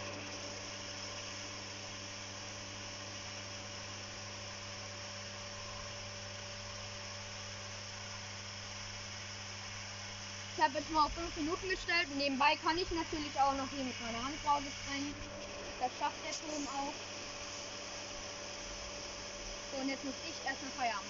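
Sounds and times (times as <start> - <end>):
electric pump motor hum: 0.0 - 21.0
steady hiss: 0.0 - 21.0.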